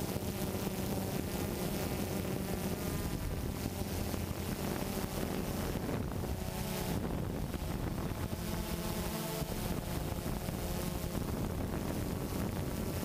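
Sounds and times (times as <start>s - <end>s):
drone propellers buzzing: 0.0s - 13.0s
wind noise on microphone: 0.0s - 13.0s.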